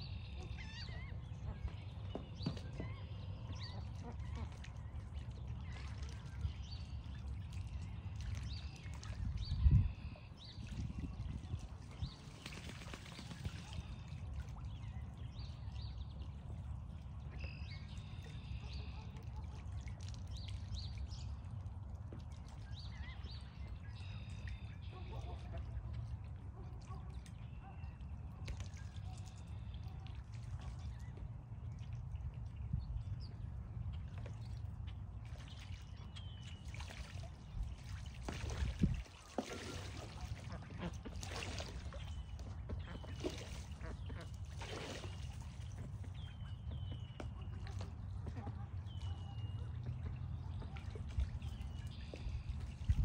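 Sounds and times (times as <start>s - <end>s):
ducks splashing in water: 0.0s - 53.0s.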